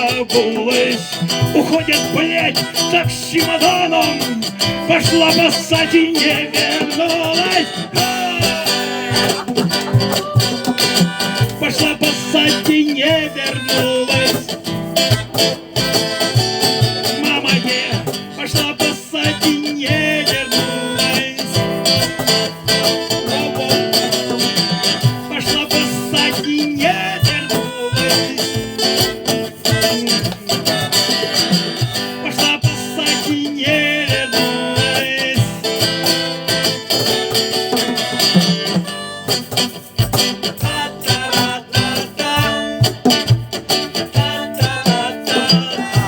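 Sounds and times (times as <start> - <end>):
drums: 0.0 - 46.0
harmonica: 0.0 - 46.0
strummed guitar: 0.0 - 46.0.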